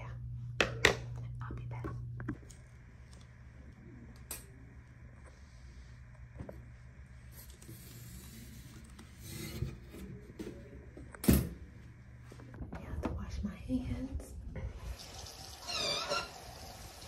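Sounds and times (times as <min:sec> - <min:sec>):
low steady hum: 0:00.0 - 0:15.5.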